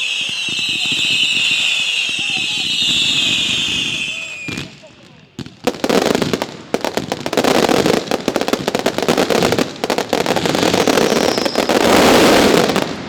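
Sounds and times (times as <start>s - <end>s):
rapid firecracker bangs: 0.0s - 13.0s.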